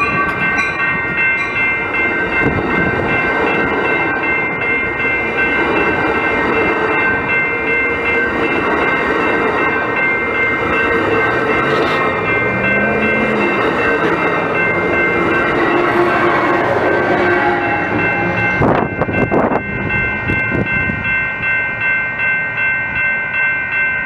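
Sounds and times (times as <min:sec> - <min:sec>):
train cars rumbling past: 0:00.0 - 0:24.0.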